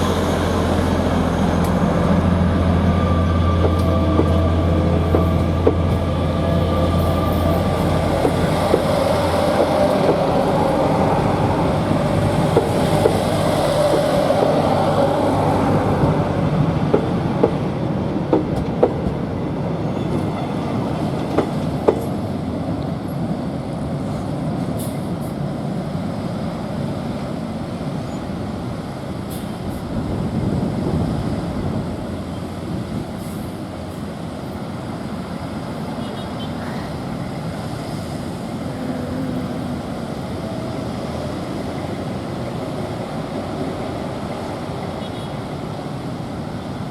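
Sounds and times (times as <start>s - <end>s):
train engine drone: 0.0s - 46.9s
train wheels rumbling on rails: 0.0s - 46.9s.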